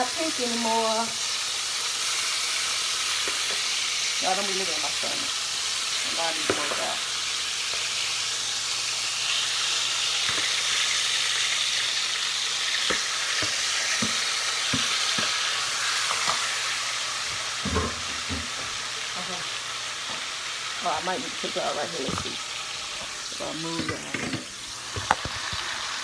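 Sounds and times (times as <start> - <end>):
chicken sizzling in a skillet: 0.0 - 26.0.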